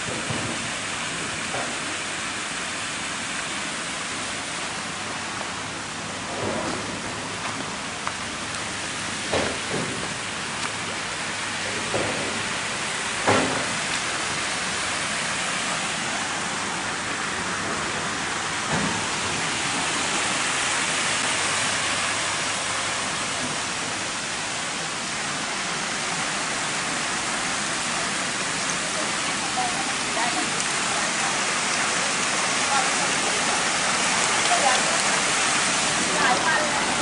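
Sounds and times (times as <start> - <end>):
waterfall rushing into pond: 0.0 - 37.0.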